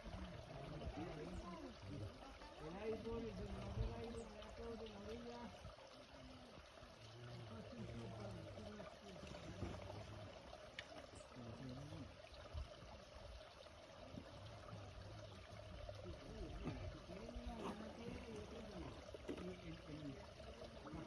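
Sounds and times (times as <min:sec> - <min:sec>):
faint people talking: 0:00.0 - 0:21.0.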